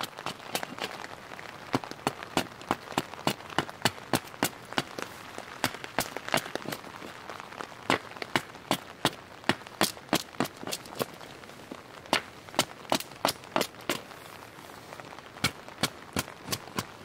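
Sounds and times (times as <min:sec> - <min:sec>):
raindrops ticking: 0:00.0 - 0:17.0
soft steady rain hiss: 0:00.0 - 0:17.0.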